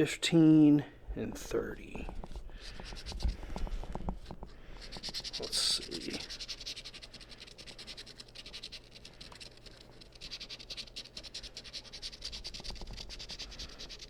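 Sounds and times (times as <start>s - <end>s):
scratch ticket rasping: 1.3s - 14.0s.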